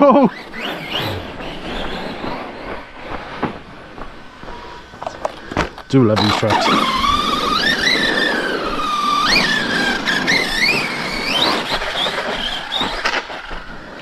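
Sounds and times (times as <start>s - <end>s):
electric motor whining: 0.0s - 3.4s, 4.8s - 14.0s.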